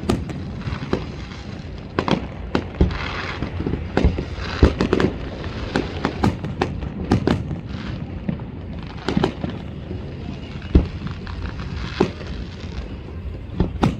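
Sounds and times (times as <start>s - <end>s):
low rumble: 0.0s - 7.1s, 9.5s - 13.9s
fireworks popping and banging: 0.0s - 13.9s.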